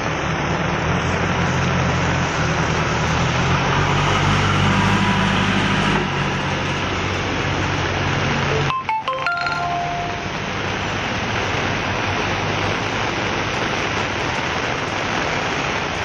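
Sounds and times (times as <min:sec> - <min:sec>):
rain on road: 0:00.0 - 0:16.0.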